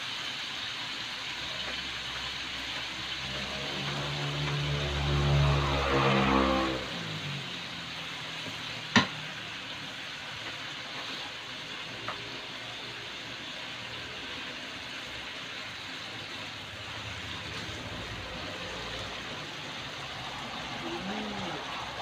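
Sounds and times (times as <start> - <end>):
sauce simmering in a wok: 0.0 - 22.0.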